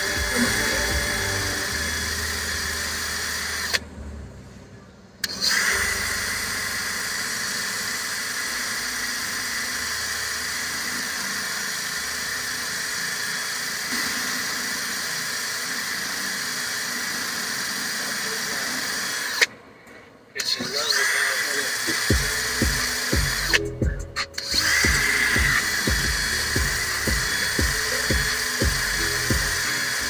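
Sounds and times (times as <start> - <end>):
drill motor whine with grinding: 0.0 - 3.9, 5.2 - 19.5, 20.7 - 30.0.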